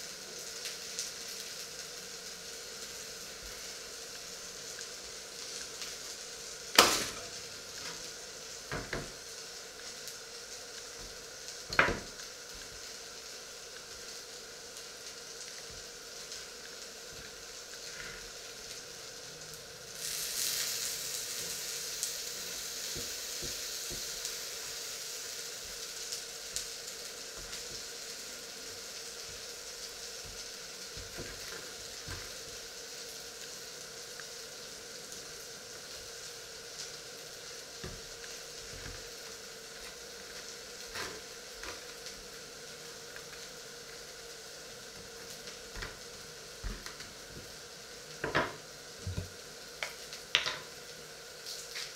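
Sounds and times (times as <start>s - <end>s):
faint steady hum: 0.0s - 51.9s
patties sizzling in a pan: 0.0s - 51.9s.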